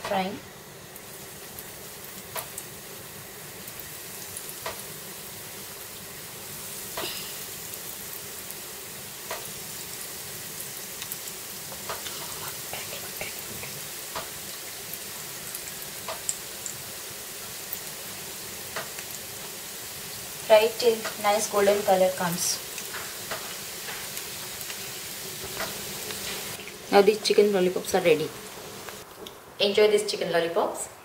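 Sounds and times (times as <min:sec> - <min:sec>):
hot oil sizzling: 0:00.0 - 0:30.1.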